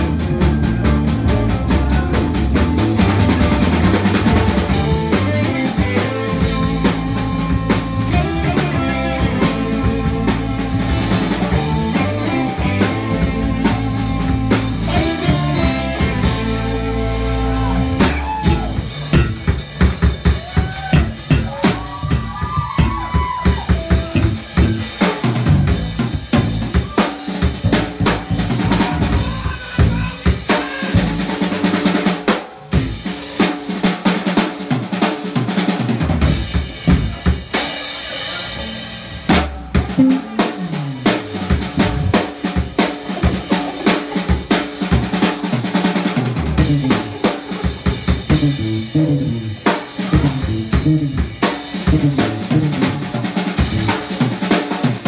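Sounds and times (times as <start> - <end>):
drum kit rapid strikes: 0.0 - 55.0
live band playing: 0.0 - 55.0.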